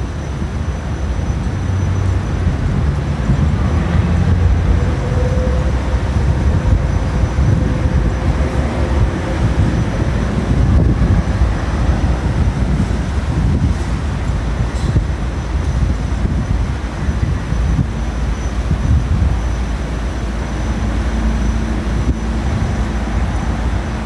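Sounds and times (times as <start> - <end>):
city traffic rumble: 0.0 - 24.0
passing vehicle engine hum: 0.0 - 24.0.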